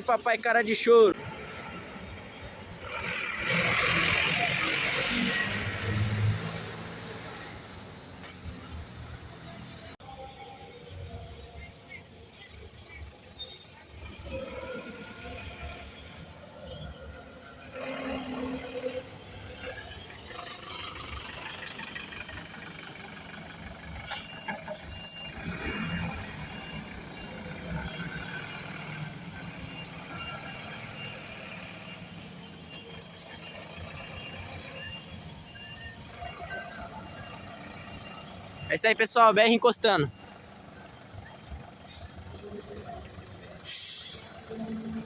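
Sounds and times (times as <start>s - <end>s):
bus engine hum: 0.0s - 38.7s, 39.4s - 45.0s.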